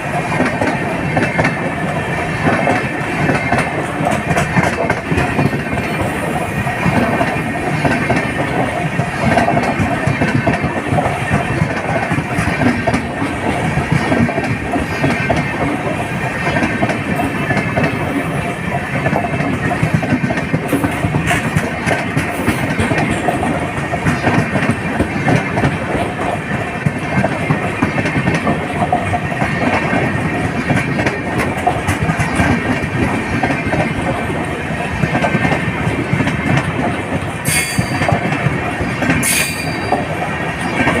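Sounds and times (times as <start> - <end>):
train wheels clattering: 0.0 - 41.0.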